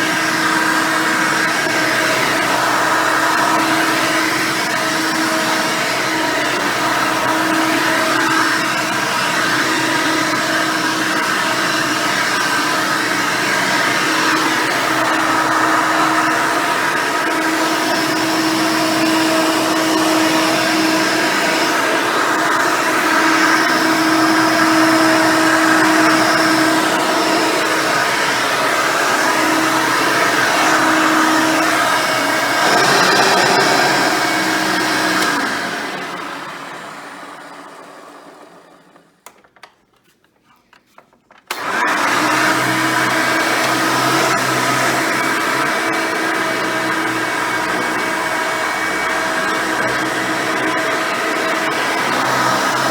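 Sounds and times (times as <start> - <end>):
upright vacuum running: 0.0 - 39.4, 41.5 - 52.9.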